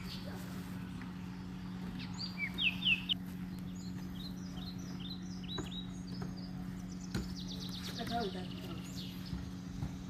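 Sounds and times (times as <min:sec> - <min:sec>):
songbirds chirping and trilling: 0:00.0 - 0:10.0
steady low hum: 0:00.0 - 0:10.0.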